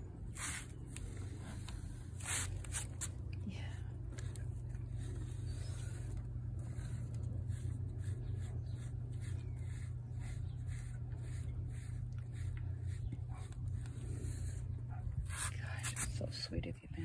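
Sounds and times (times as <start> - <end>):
brush rasping through fur: 0.0 - 16.6
steady low rumble: 0.0 - 17.0.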